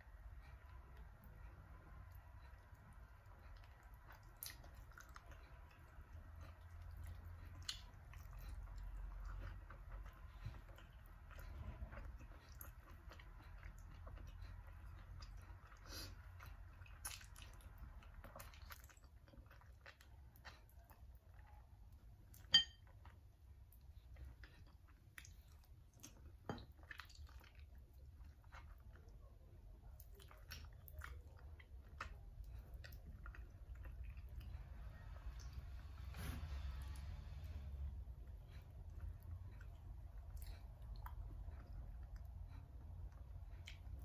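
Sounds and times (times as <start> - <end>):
low steady hum: 0.0 - 44.0
wet chewing and lip-smacking: 0.1 - 44.0.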